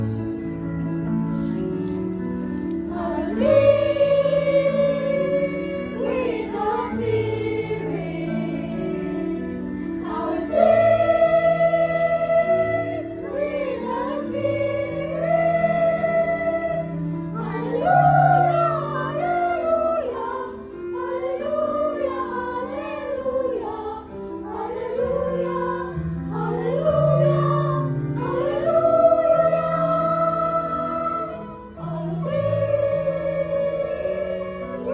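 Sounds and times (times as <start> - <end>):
church choir singing: 1.4 - 34.9.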